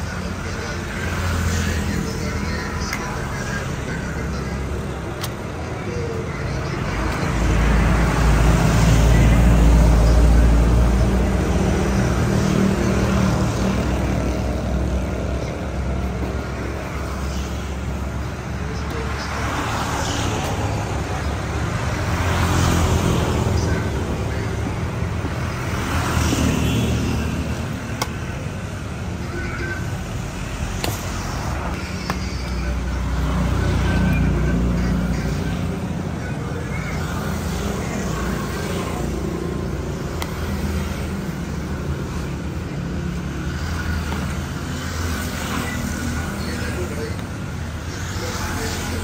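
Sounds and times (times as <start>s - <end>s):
faint voices: 0.0s - 49.0s
street traffic rumble: 0.0s - 49.0s.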